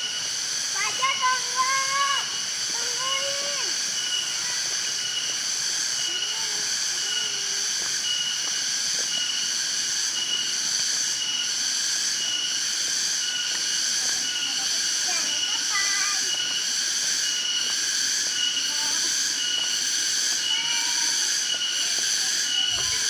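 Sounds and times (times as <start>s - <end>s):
cicadas droning: 0.0s - 23.0s
pulsing high cicada note: 0.0s - 23.0s.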